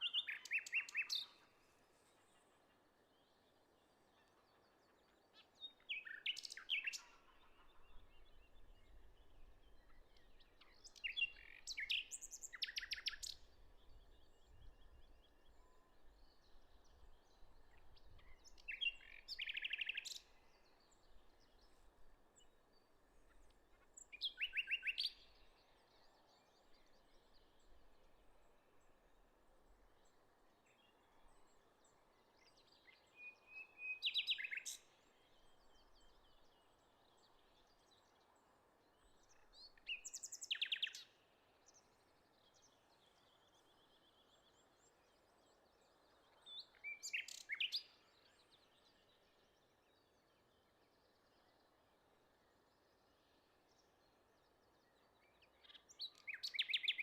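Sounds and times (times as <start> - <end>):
songbird singing trill: 0.0 - 1.5, 4.1 - 29.1, 29.9 - 57.0.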